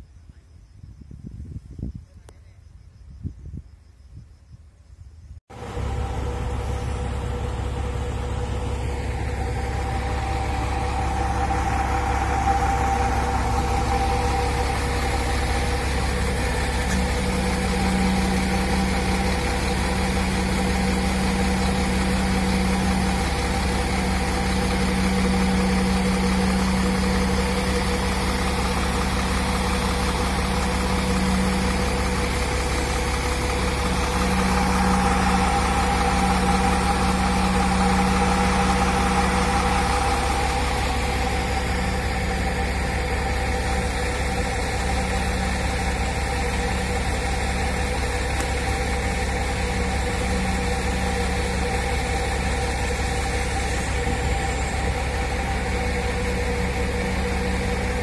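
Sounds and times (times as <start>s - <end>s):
diesel engine running: 5.5s - 58.0s
humming tone: 5.6s - 58.0s.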